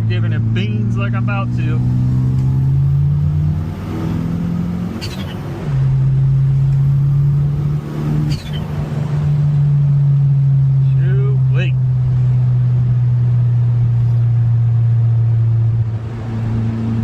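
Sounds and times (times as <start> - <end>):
turbocharged car engine accelerating: 0.0 - 17.0.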